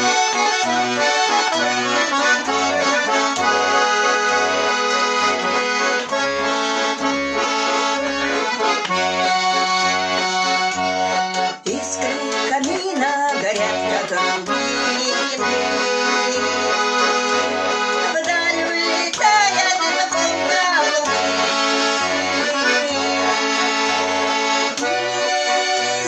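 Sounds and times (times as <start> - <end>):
button accordion melody: 0.0 - 26.0.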